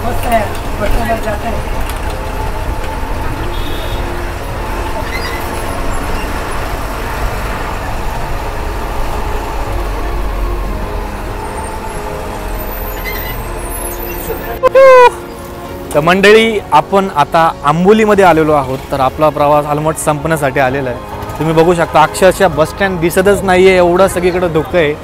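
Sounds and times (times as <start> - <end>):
bus engine running: 0.0 - 14.6, 17.5 - 24.8
road noise: 0.0 - 25.0.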